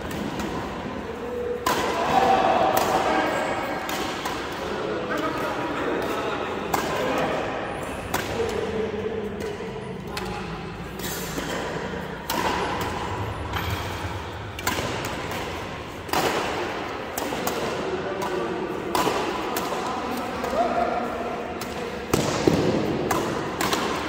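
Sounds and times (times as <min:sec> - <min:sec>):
rackets striking shuttlecock: 0:00.0 - 0:24.0.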